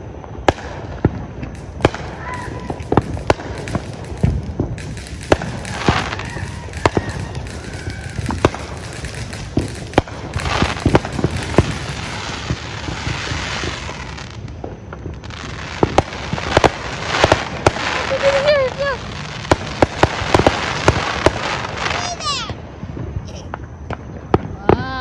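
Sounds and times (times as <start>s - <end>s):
fireworks crackling hiss: 0.0s - 25.0s
fireworks popping and banging: 0.0s - 25.0s.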